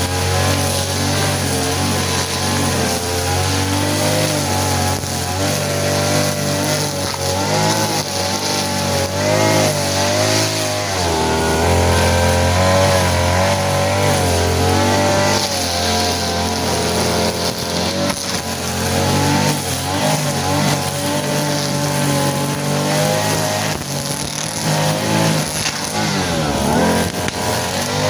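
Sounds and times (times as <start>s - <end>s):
lawn mower engine running: 0.0s - 28.0s.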